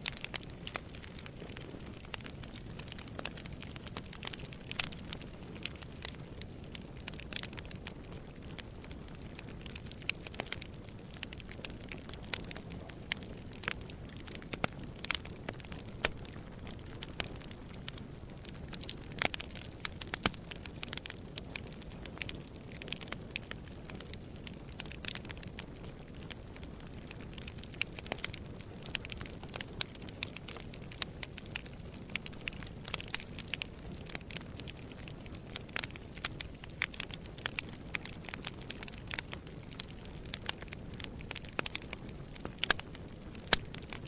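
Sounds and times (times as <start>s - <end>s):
low rumble of flames: 0.0s - 44.0s
wood fire crackling and popping: 0.0s - 44.0s.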